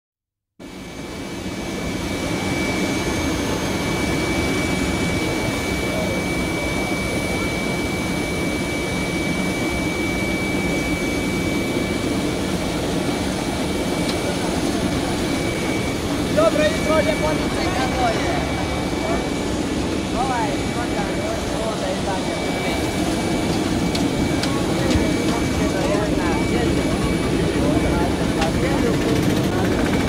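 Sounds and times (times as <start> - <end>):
jet turbine whine and rumble: 0.6 - 30.0.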